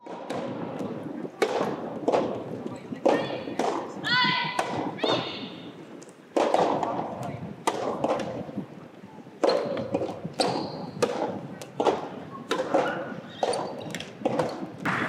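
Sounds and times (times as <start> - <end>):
tennis balls hit and bouncing: 0.0 - 15.0.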